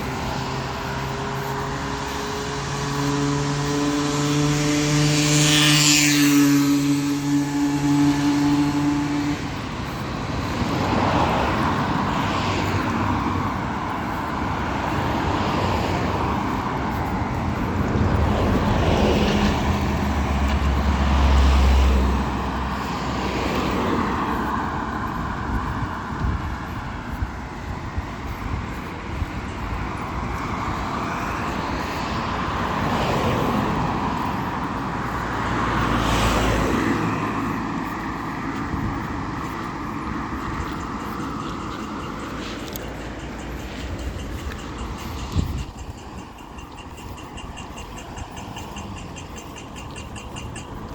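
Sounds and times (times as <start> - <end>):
vehicles passing: 0.0 - 50.9
heavy vehicle rumble: 6.4 - 50.9.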